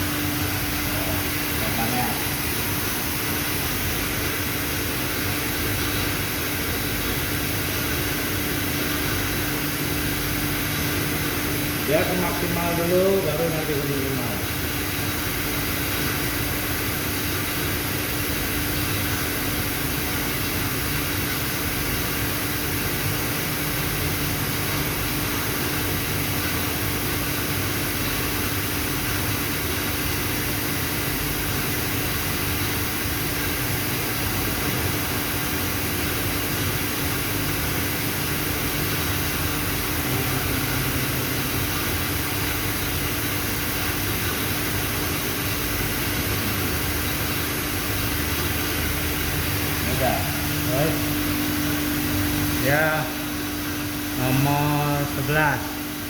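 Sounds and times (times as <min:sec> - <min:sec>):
industrial machinery drone: 0:00.0 - 0:56.0.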